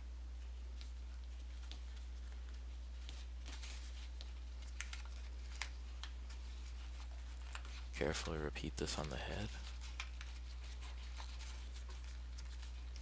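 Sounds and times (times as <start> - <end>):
low electrical hum: 0.0 - 13.0
paper rustling and crinkling: 0.4 - 13.0.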